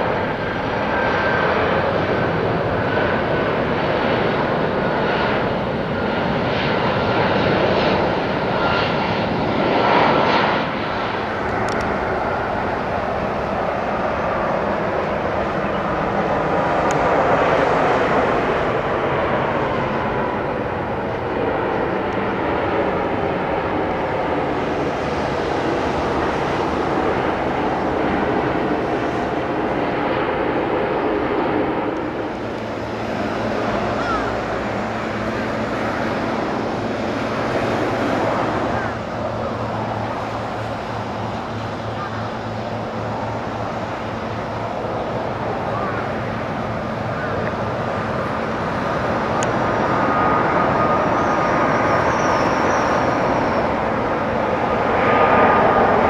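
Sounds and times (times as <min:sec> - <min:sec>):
jet airliner engines rumbling: 0:00.0 - 0:56.0.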